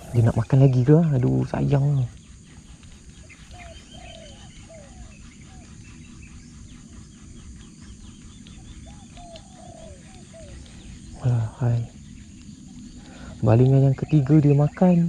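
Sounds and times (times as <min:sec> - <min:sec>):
chorus of insects: 0:00.0 - 0:15.0.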